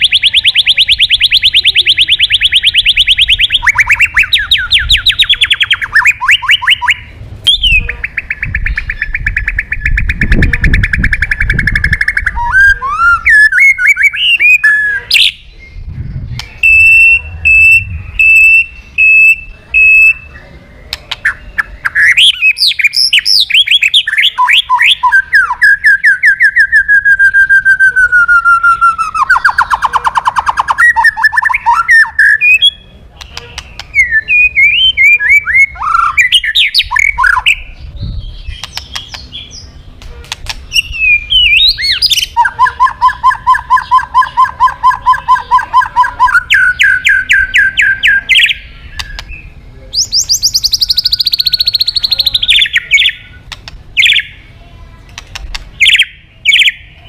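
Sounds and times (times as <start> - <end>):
songbird singing whistled trills: 0.0 - 39.8, 40.7 - 54.5, 55.8 - 57.0.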